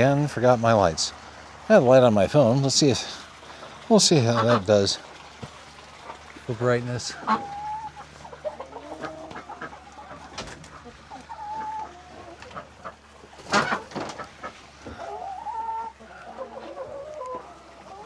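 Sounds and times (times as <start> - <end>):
chickens calling softly: 0.0 - 18.0.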